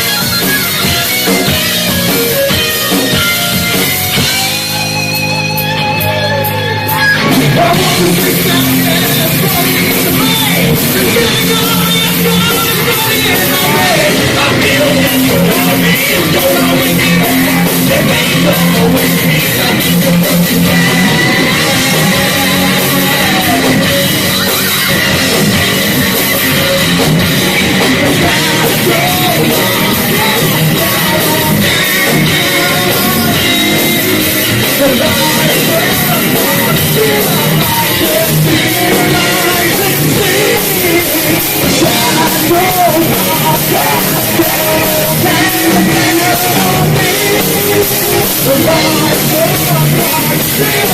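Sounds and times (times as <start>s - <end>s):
heavy metal band playing: 0.0s - 50.9s
person singing: 0.0s - 50.9s.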